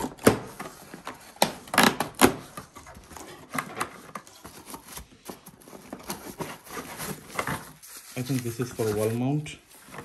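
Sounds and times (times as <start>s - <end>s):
packaging scraping and rustling: 0.0s - 10.0s.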